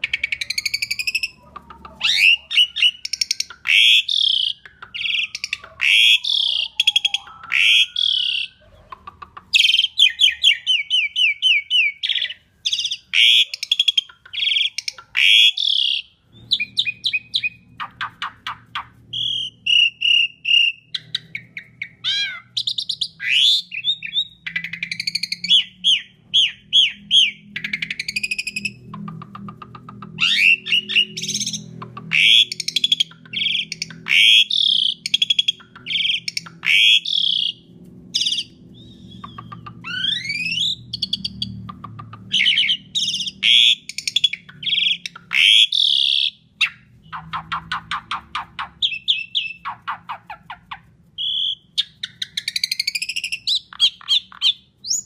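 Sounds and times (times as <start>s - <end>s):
faint low hum: 0.0s - 55.0s
starling singing: 0.0s - 55.0s.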